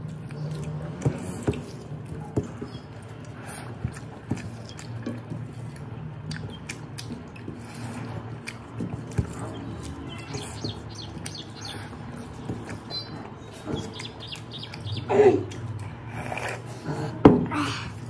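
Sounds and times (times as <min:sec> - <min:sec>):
chewing: 0:00.0 - 0:16.9.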